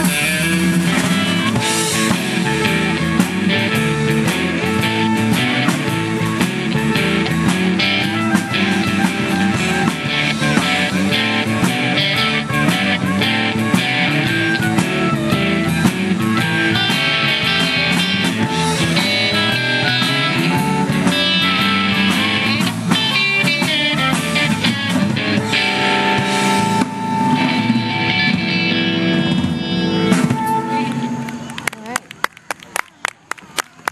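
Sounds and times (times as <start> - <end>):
harmonica: 0.0 - 31.6
electric bass: 0.0 - 31.9
drum kit beat: 0.0 - 32.0
electric guitar: 0.0 - 32.2.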